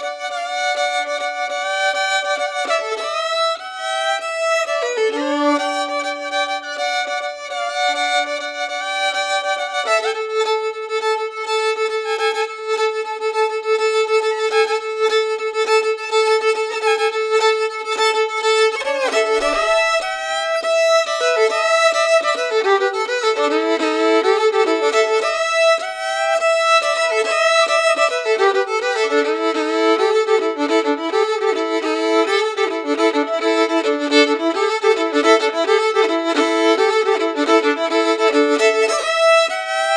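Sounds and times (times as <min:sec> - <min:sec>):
violin music: 0:00.0 - 0:39.9.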